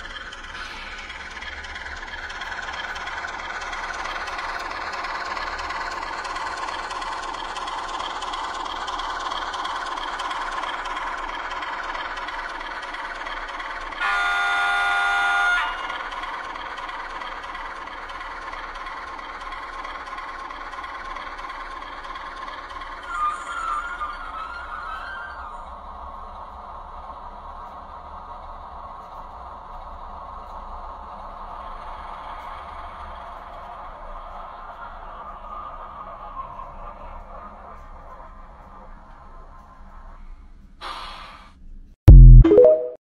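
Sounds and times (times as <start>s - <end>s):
diesel engine running sound: 0.0s - 40.2s.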